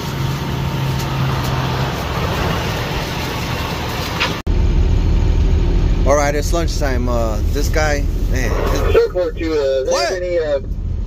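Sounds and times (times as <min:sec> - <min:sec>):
street low hum: 0:00.0 - 0:11.0.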